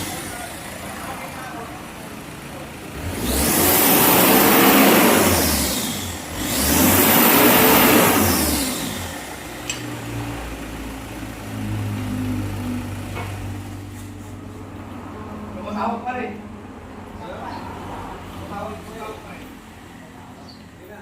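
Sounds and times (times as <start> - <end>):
vehicle engine revving: 0.0 - 20.1.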